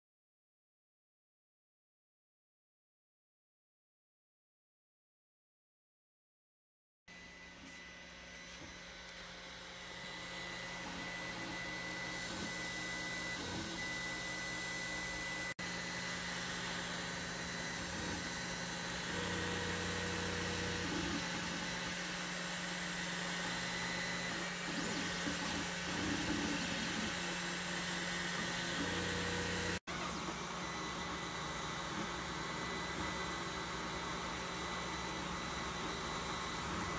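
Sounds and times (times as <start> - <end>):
cooling fans whirring: 7.2 - 36.9
stepper motors humming: 7.2 - 36.9.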